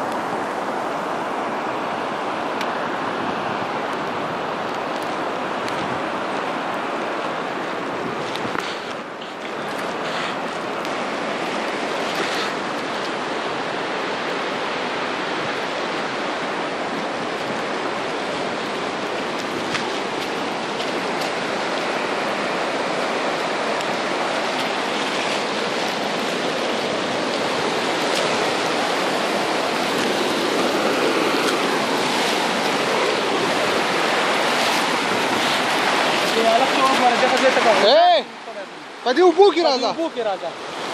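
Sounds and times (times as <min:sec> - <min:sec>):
flooded river rushing: 0:00.0 - 0:40.9.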